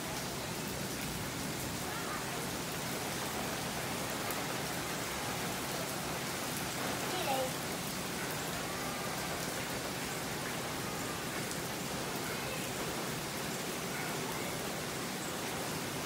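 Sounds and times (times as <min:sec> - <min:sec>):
rain on a tiled driveway: 0:00.0 - 0:16.0.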